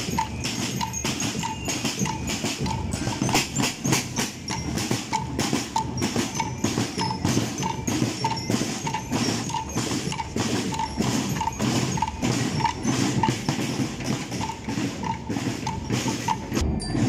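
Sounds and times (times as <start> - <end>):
snare and bass drums marching: 0.0 - 17.0.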